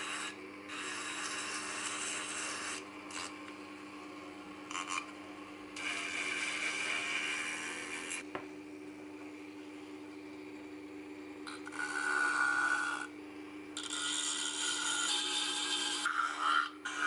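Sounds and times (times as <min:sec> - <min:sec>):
rotary tool humming: 0:00.0 - 0:08.4, 0:09.4 - 0:17.0.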